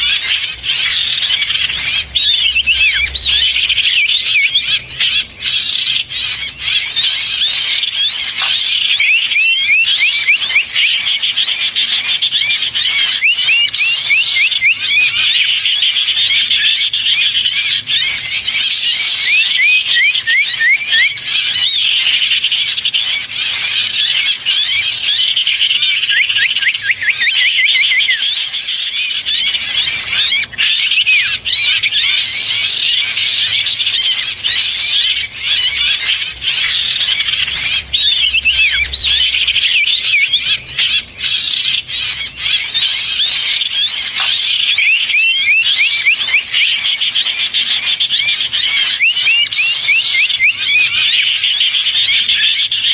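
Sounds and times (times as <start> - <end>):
songbirds chirping and twittering: 0.0 - 52.9.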